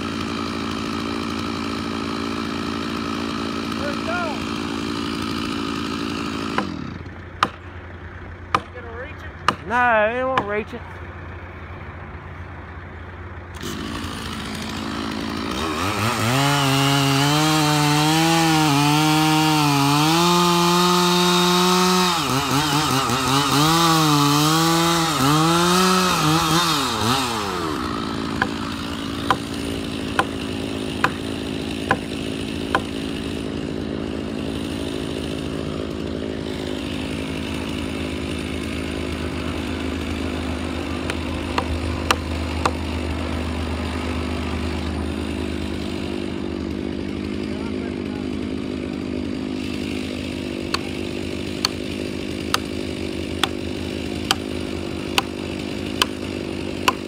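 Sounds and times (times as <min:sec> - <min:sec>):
chainsaw cutting wood: 0:00.0 - 0:11.6, 0:13.0 - 0:57.0.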